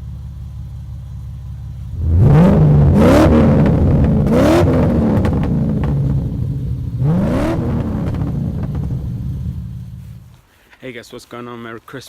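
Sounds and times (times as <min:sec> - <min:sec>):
car engine idling and revving: 0:00.0 - 0:10.4.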